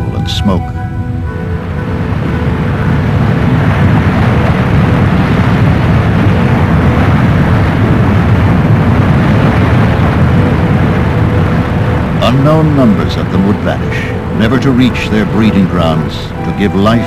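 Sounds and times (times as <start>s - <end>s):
oil well fire roaring: 1.1s - 17.0s.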